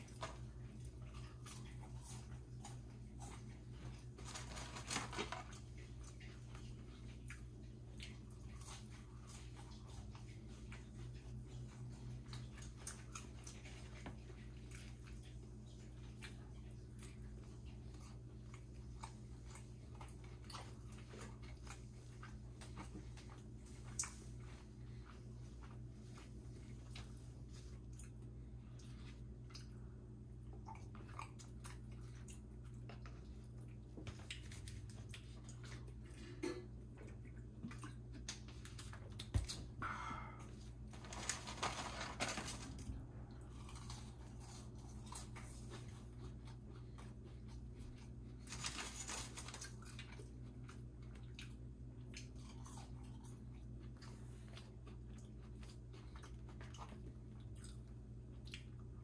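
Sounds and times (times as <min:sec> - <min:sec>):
person chewing crunchy food: 0:00.0 - 0:42.0, 0:42.9 - 0:59.0
steady low hum: 0:00.0 - 0:59.0.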